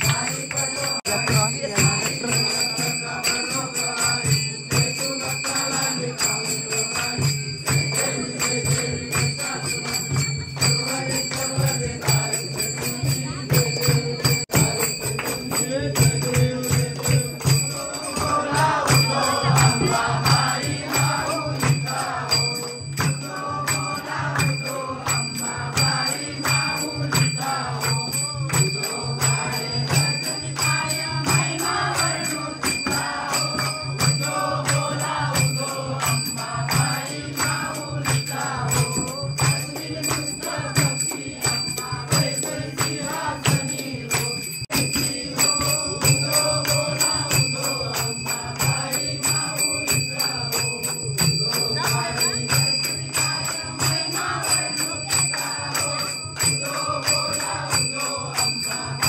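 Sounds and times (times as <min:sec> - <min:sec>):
devotional singing: 0:00.0 - 0:59.0
jingling percussion: 0:00.0 - 0:59.0.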